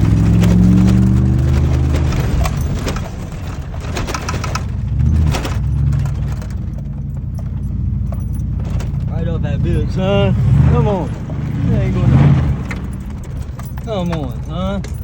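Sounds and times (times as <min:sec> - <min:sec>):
knocks and clatter: 0:00.0 - 0:15.0
truck engine under load: 0:00.0 - 0:15.0.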